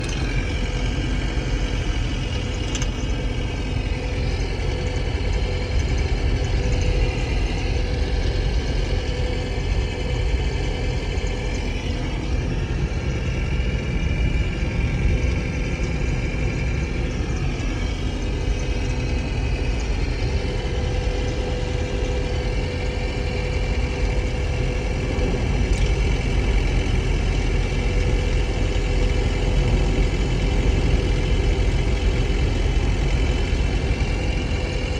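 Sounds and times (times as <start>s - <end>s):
car engine idling: 0.0s - 34.9s
engine rattle: 0.0s - 34.9s.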